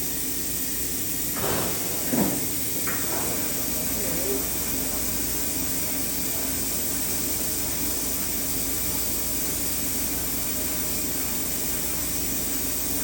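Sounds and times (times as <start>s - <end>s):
machining center hiss: 0.0s - 13.0s.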